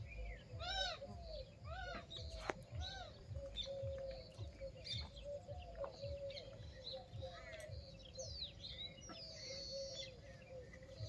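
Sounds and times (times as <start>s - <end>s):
soft low thuds: 0.0s - 9.2s
high bird chirps: 0.0s - 11.0s.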